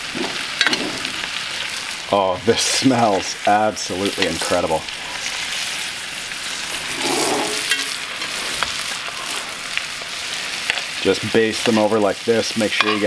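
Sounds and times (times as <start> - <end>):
steaks sizzling in a skillet: 0.0 - 13.0.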